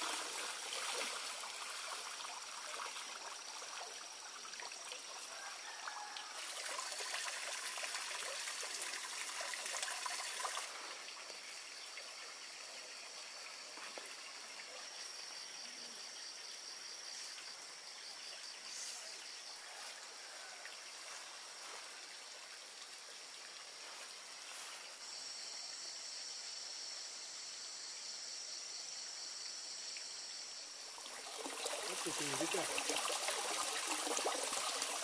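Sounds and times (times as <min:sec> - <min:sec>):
trickling water: 0:00.0 - 0:25.9, 0:29.0 - 0:35.0
insects trilling: 0:00.0 - 0:35.0.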